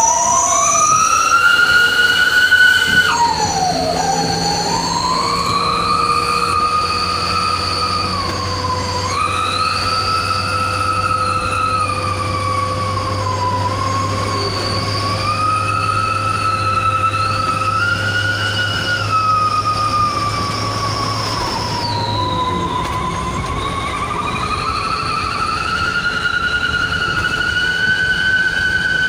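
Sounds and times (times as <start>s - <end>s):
truck engine drone: 0.0s - 29.0s
whistle exhaust howling: 0.0s - 29.0s.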